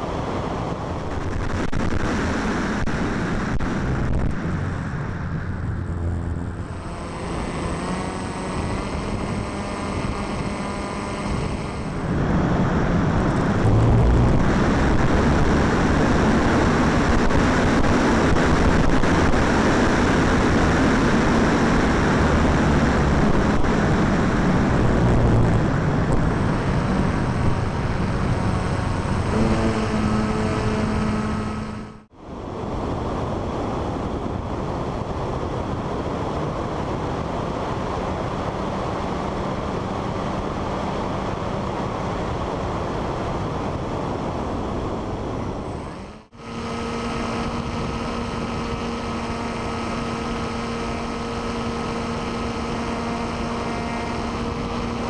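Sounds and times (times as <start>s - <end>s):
motor and propeller hum: 0.0s - 55.0s
wind rushing over microphone: 0.0s - 55.0s.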